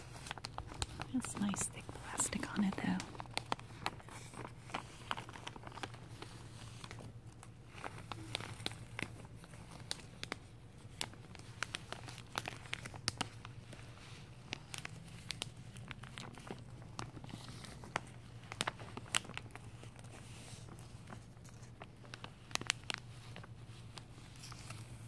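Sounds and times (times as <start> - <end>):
plastic sheeting crackling: 0.0 - 25.0.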